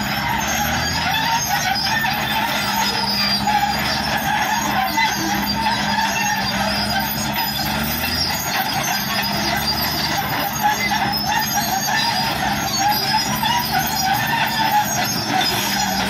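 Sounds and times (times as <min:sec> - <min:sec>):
bulldozer diesel engine under load: 0:00.0 - 0:16.0
steel tracks squealing and clattering: 0:00.0 - 0:16.0.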